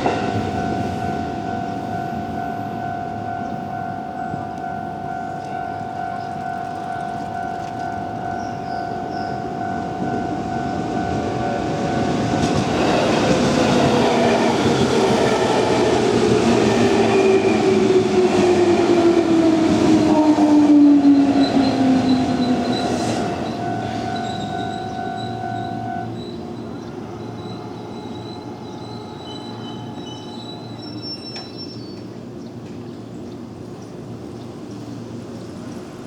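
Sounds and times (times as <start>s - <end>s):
level crossing warning bell ringing: 0.0s - 31.5s
electric train passing: 0.0s - 36.0s.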